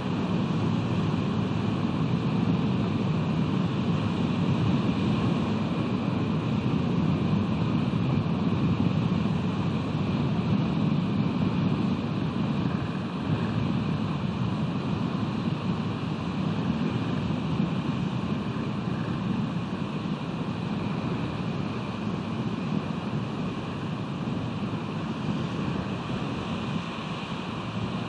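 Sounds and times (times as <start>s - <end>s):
ocean surf: 0.0s - 28.0s
wind: 0.0s - 28.0s.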